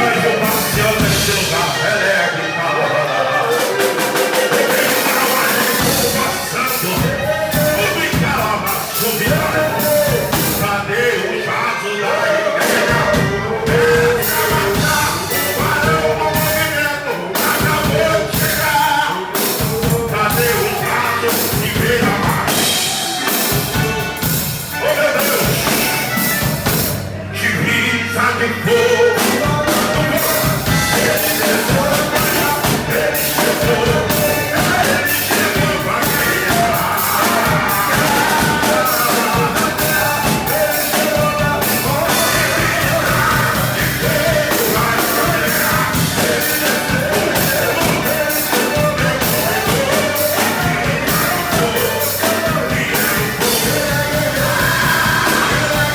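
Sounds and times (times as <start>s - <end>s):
drum kit: 0.0s - 2.4s, 3.3s - 11.1s, 12.6s - 27.5s, 28.6s - 55.9s
band playing upbeat worship song: 0.0s - 55.9s
voices singing: 0.0s - 55.9s.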